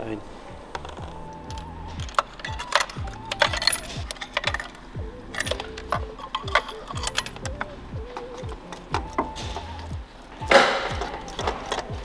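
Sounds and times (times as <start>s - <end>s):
background music with steady beat: 0.0s - 12.0s
metal tools clinking: 0.7s - 12.0s.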